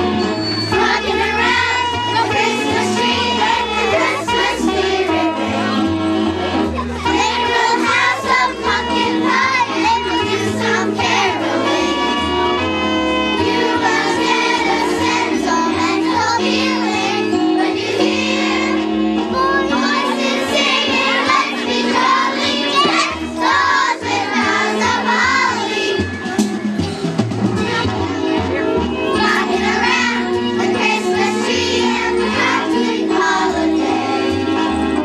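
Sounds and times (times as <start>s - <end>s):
children's choir singing: 0.0s - 6.0s, 7.0s - 35.0s
instrumental accompaniment with bass: 0.0s - 35.0s.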